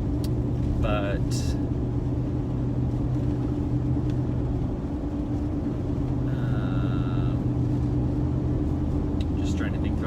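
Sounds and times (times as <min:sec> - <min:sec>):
car engine and tyres droning: 0:00.0 - 0:10.0.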